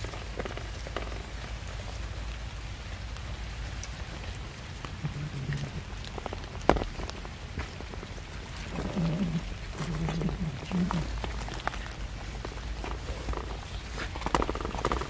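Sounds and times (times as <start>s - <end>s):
cats chewing and lapping: 0.0s - 15.0s.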